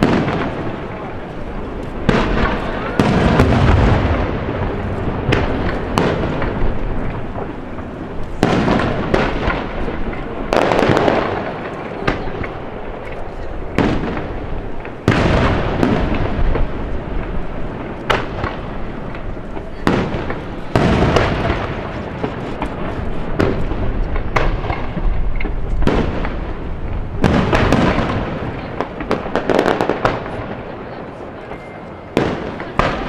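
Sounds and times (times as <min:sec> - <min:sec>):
fireworks booming and crackling: 0:00.0 - 0:33.0
rapid-fire fireworks bangs: 0:00.0 - 0:33.0.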